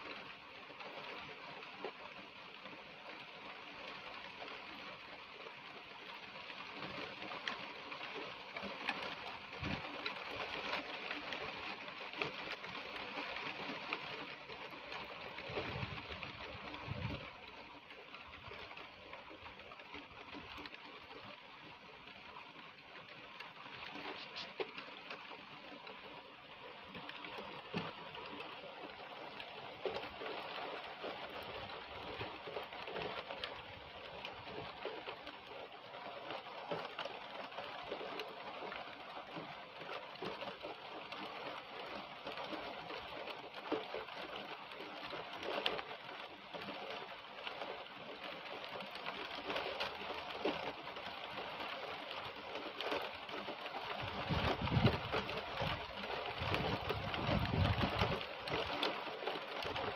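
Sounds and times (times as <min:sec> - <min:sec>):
heavy rain through trees: 0:00.0 - 0:59.9.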